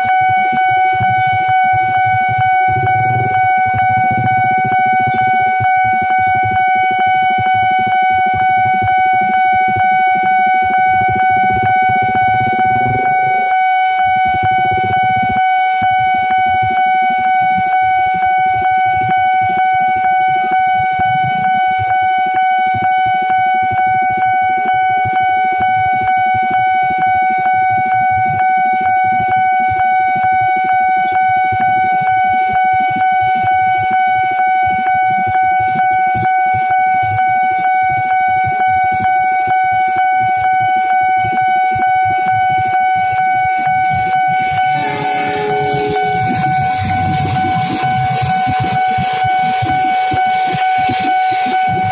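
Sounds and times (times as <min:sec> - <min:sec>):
level crossing alarm pulsing: 0:00.0 - 0:51.9.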